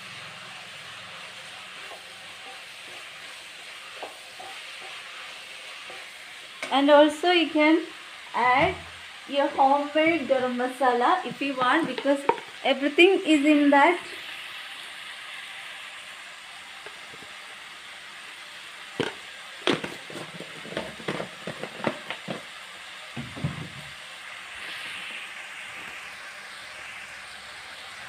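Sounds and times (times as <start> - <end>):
spices frying in a pan: 0.0 - 28.0.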